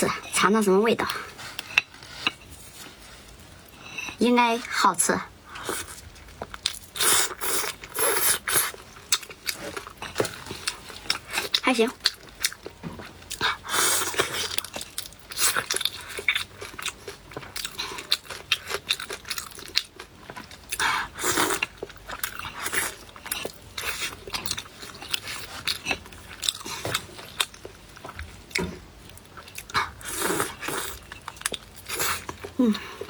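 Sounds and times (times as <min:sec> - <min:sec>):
chewing crunchy food: 0:05.5 - 0:33.0.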